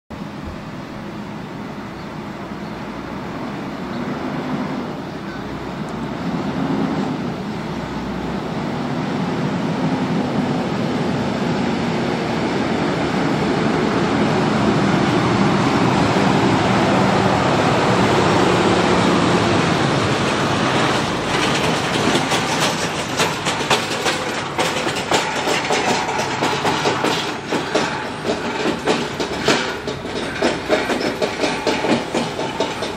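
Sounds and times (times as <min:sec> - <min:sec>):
trailer rattling over crossing: 0:00.1 - 0:32.9
diesel truck passing: 0:00.2 - 0:32.9.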